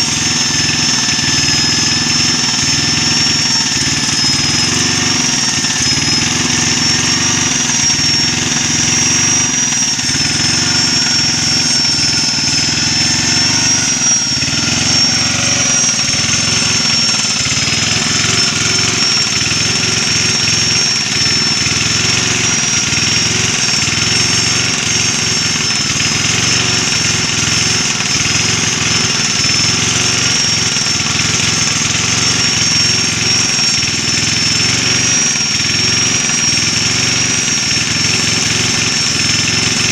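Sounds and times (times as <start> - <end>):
angle grinder whining: 0.0 - 39.9
rough rattle: 0.0 - 39.9.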